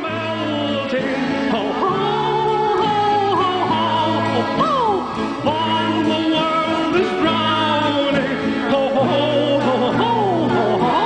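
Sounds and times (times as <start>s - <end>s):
steady bass notes: 0.0s - 11.0s.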